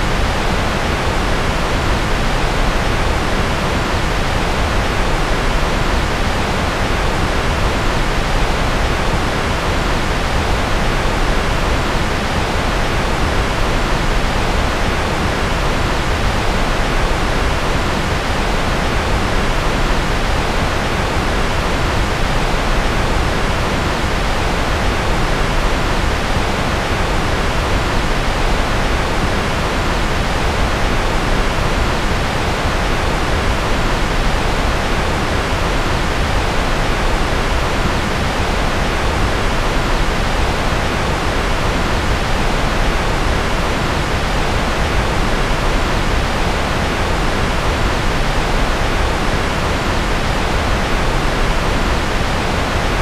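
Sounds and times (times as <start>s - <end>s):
synthetic white noise hiss: 0.0s - 53.0s.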